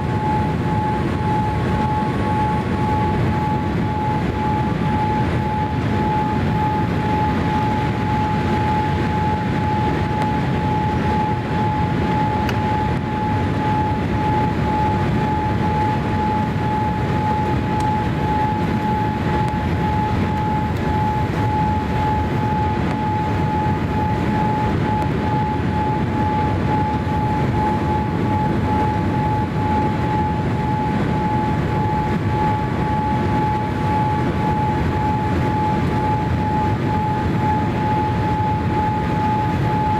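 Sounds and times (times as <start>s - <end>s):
engine and airflow rush: 0.0s - 39.9s
high-pitched whine: 0.0s - 39.9s.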